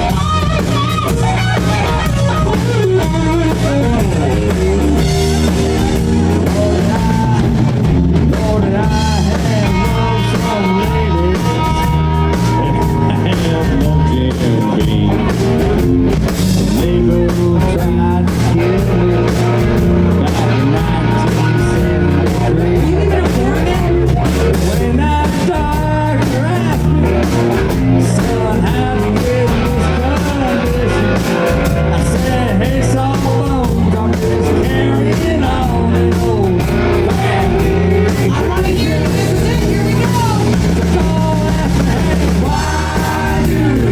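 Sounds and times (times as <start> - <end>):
person singing: 0.0 - 15.9, 16.6 - 43.9
drum kit: 0.0 - 43.9
guitar: 0.0 - 43.9.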